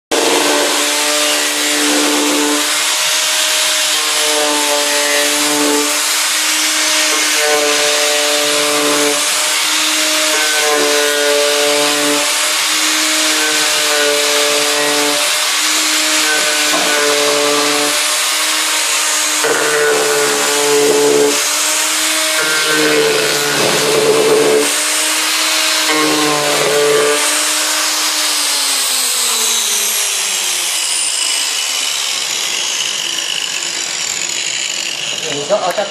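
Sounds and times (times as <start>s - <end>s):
angle grinder on wood: 0.1s - 35.9s.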